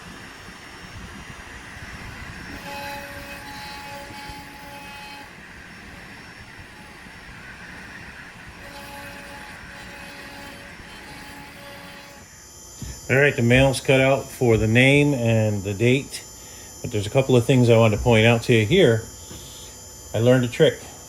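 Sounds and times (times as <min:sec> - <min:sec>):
thin whining tone: 0:00.0 - 0:21.0
router spindle cutting wood: 0:02.0 - 0:20.6.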